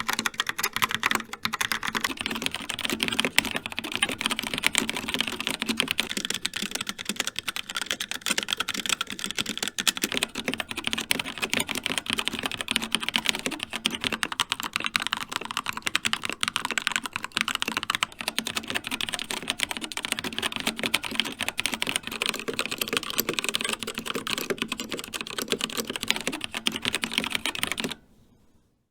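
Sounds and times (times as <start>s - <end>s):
fast typing on mechanical keyboard: 0.0s - 28.0s.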